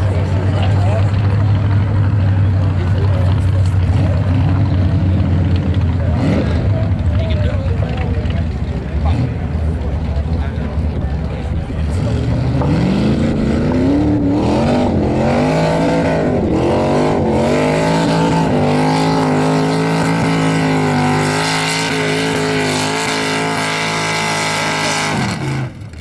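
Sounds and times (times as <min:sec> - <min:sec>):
tractor engine revving at full throttle: 0:00.0 - 0:26.0.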